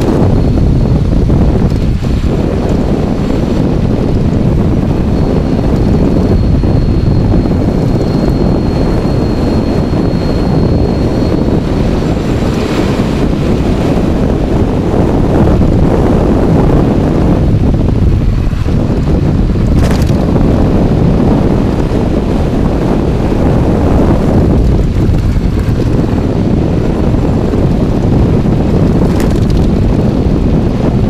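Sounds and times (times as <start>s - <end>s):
thin high whine: 0.0s - 29.5s
road rumble: 0.0s - 31.0s
wind buffeting camera: 0.0s - 31.0s.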